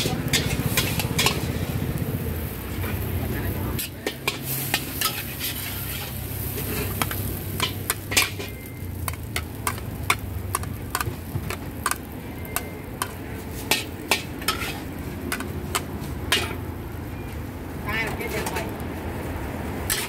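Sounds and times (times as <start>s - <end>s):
metal spatula scraping a wok: 0.0s - 3.1s, 3.8s - 16.7s, 19.8s - 20.0s
noodles sizzling: 0.0s - 20.0s.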